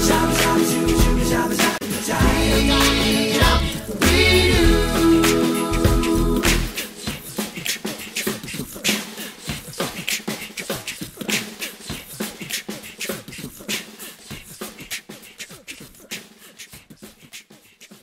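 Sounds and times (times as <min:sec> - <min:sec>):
beatboxing: 0:00.0 - 0:18.0.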